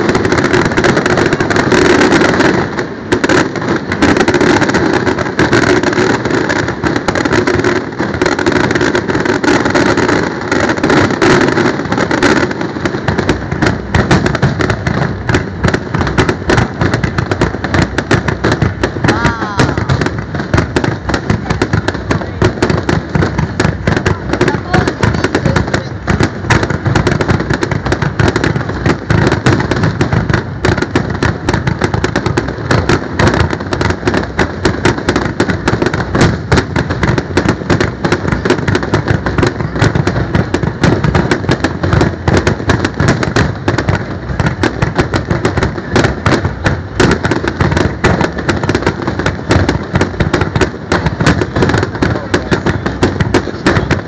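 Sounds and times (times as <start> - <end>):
fireworks bursts and crackling bangs: 0.0 - 54.0.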